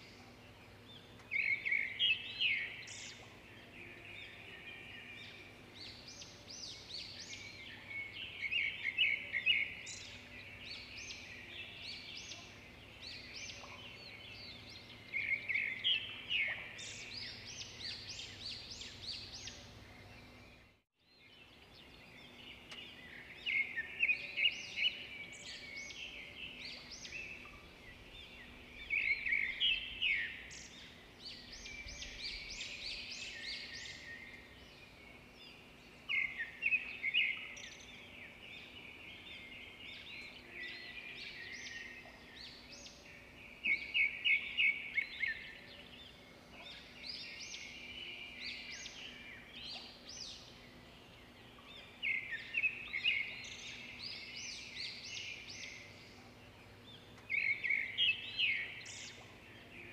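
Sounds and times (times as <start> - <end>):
small birds chirping chorus: 0.0 - 59.9.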